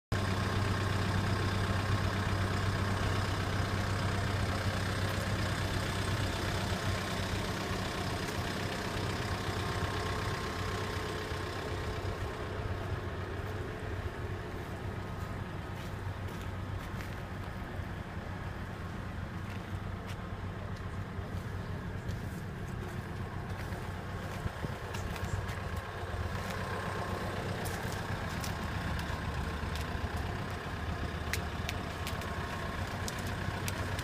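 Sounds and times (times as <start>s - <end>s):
car engine idling: 0.1s - 34.0s.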